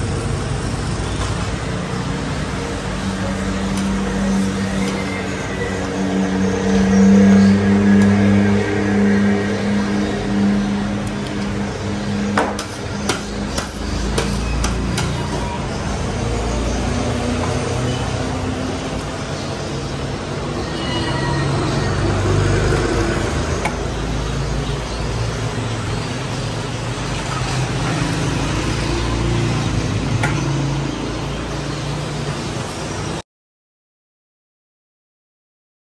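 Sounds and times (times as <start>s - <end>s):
motorbikes passing: 0.0s - 33.2s
street traffic noise: 0.0s - 33.2s.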